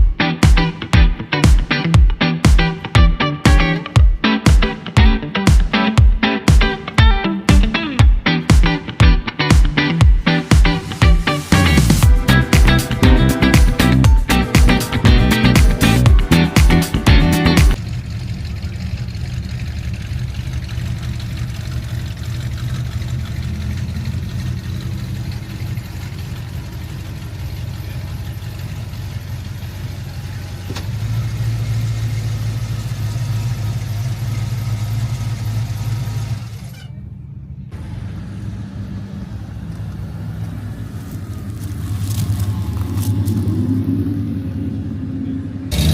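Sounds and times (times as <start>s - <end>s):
car engine idling: 0.0s - 43.6s.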